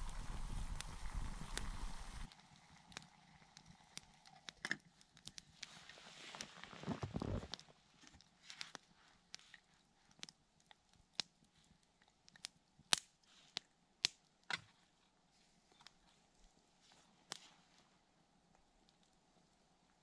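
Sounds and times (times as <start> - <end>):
campfire crackling: 0.0 - 14.9, 15.6 - 20.0.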